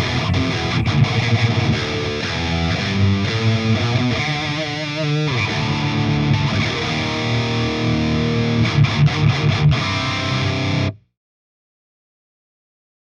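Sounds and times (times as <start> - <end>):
distorted electric guitar: 0.0 - 11.1.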